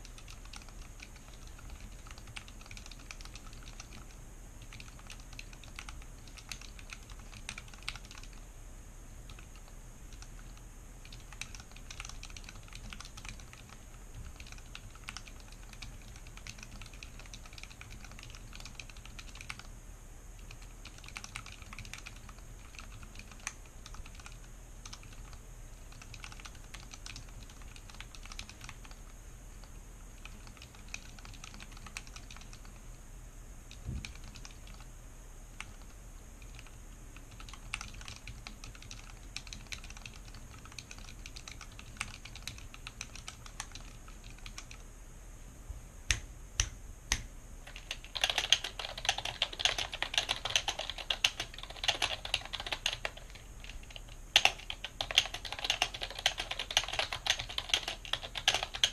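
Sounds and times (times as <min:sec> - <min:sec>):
fast typing on mechanical keyboard: 0:00.0 - 0:08.4, 0:09.3 - 0:19.7, 0:20.4 - 0:29.1, 0:30.2 - 0:32.8, 0:33.7 - 0:34.8, 0:35.6 - 0:44.8, 0:47.7 - 0:58.9.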